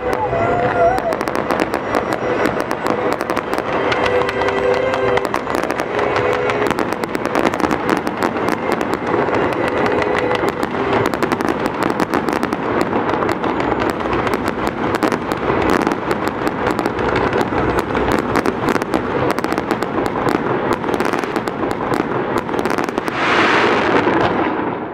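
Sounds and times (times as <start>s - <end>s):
fireworks crackling and banging: 0.0s - 24.9s.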